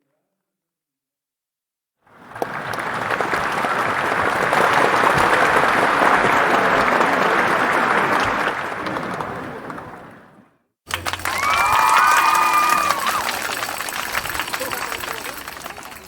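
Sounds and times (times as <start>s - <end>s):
large audience applauding: 2.1s - 10.2s, 10.9s - 16.0s.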